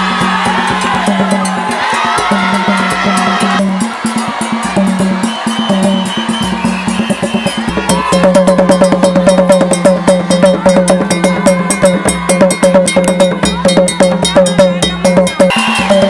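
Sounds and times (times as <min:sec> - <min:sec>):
drums in fast rhythm: 0:00.0 - 0:16.0.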